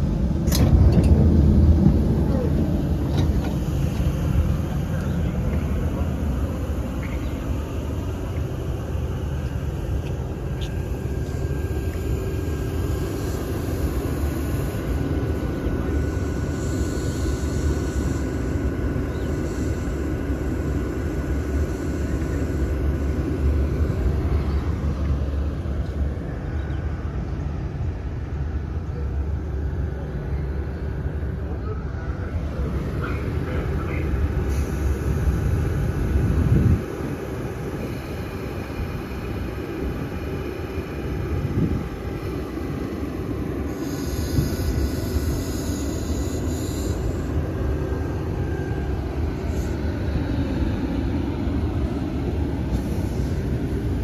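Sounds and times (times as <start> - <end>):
faint steady whine: 0.0 - 54.0
train wheels rumbling on track: 0.0 - 54.0.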